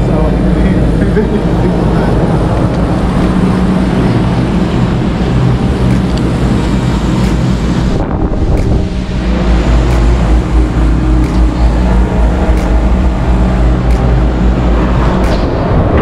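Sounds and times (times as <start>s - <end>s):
vehicle rumbling: 0.0s - 16.0s
wind noise on microphone: 2.0s - 16.0s.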